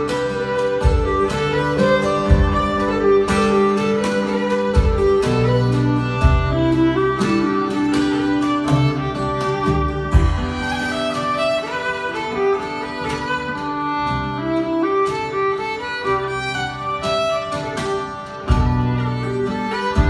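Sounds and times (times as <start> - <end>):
acoustic guitar: 0.0 - 20.0
fiddle melody: 0.0 - 20.0
low notes: 0.0 - 20.0.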